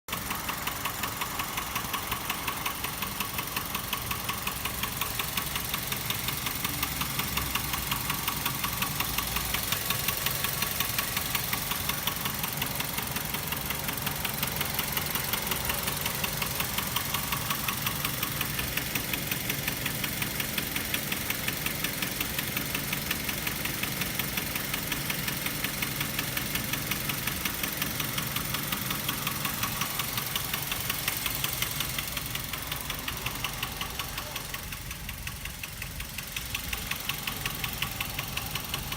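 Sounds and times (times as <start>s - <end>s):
car engine rhythmic clatter: 0.1s - 38.9s.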